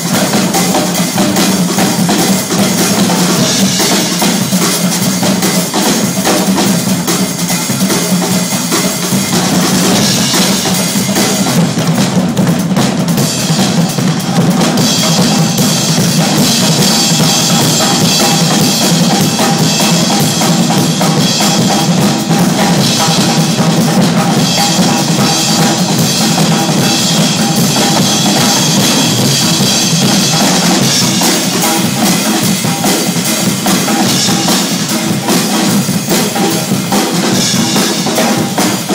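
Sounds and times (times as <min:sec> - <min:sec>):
group of drummers playing: 0:00.0 - 0:38.9.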